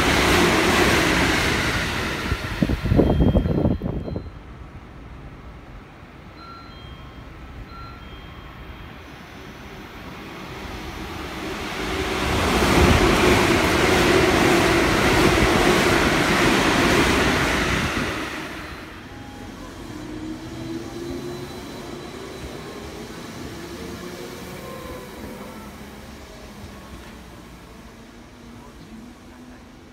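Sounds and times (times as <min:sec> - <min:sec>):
train rushing past: 0:00.0 - 0:04.3, 0:07.7 - 0:29.9.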